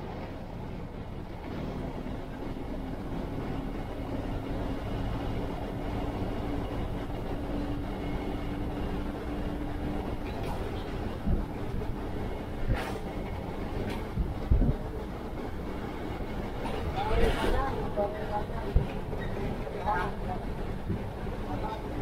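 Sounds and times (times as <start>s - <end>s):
bus engine drone: 0.0s - 22.0s
road rumble: 0.0s - 22.0s.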